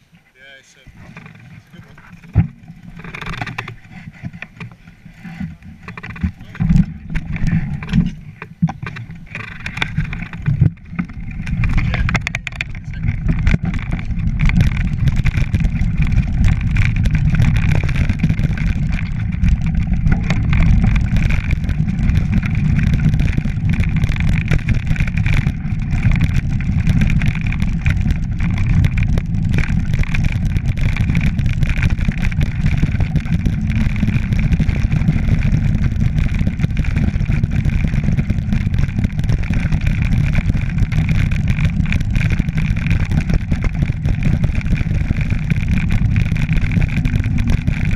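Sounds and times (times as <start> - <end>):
bike rattles and clicks: 0.0 - 47.9
tyres and wind rumbling: 0.0 - 47.9.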